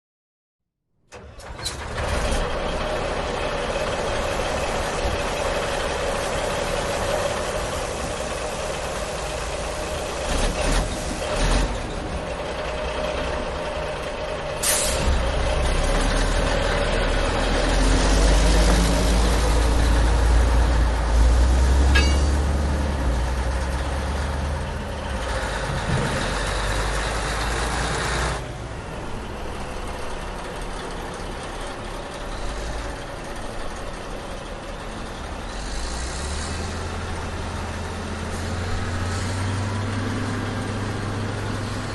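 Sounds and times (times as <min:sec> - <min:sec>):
dumper truck engine rumble: 0:01.1 - 0:41.9.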